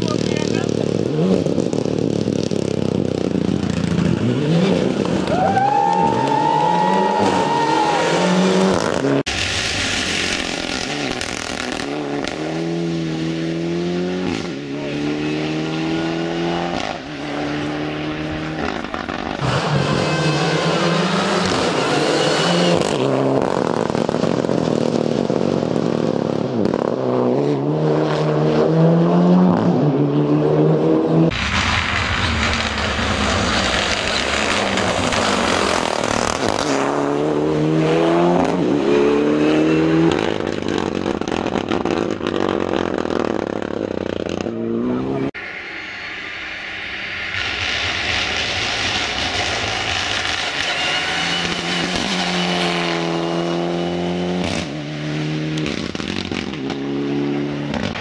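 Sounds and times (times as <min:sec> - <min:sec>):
rally car engine at full throttle: 0:00.0 - 0:58.0.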